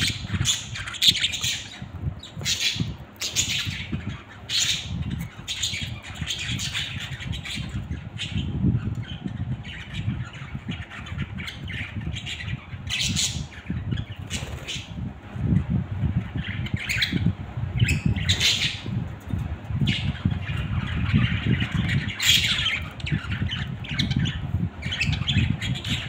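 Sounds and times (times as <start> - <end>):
budgerigars squawking and chattering: 0.0 - 15.0, 16.2 - 26.0
steady low rumble: 0.0 - 26.0.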